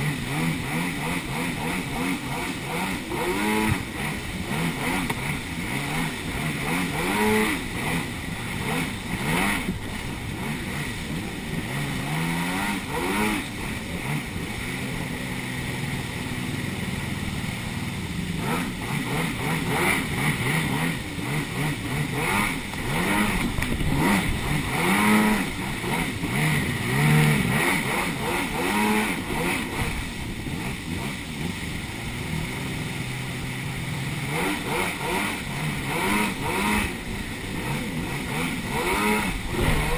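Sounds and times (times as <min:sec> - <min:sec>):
jet ski engines revving: 0:00.0 - 0:39.9
steady rushing noise: 0:00.0 - 0:39.9.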